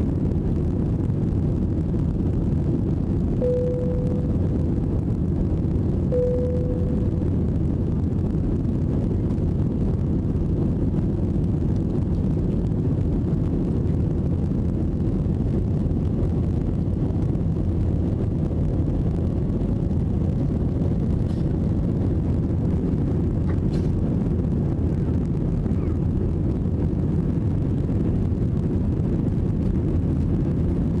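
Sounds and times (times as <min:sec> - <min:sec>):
airplane cabin engine roar: 0:00.0 - 0:31.0.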